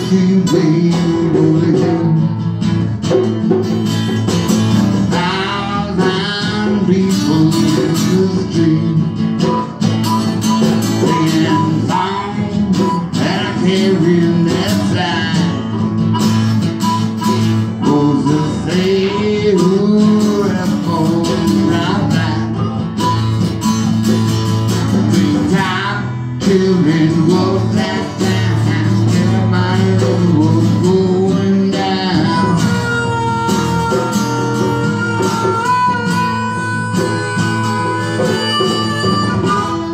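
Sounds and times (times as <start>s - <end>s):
acoustic guitars strumming: 0.0s - 39.9s
harmonica melody: 3.6s - 39.9s.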